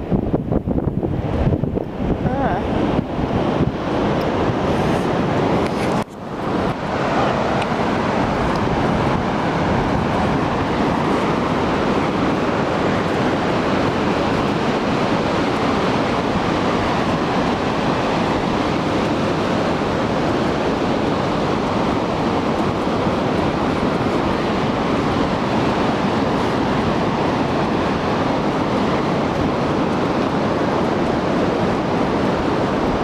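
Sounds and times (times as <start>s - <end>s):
ocean surf rushing: 0.0s - 33.0s
wind on microphone: 0.0s - 33.0s.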